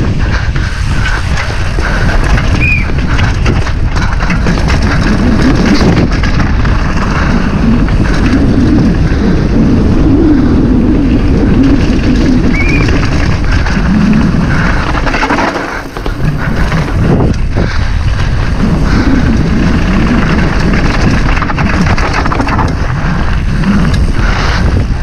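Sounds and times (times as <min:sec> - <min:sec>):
bike rattling over rough trail: 0:00.0 - 0:25.0
wind buffeting microphone: 0:00.0 - 0:25.0.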